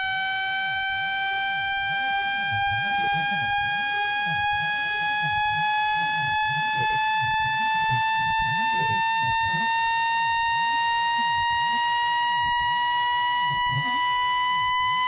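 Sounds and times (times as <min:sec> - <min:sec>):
rising buzzy electronic tone: 0:00.0 - 0:15.0.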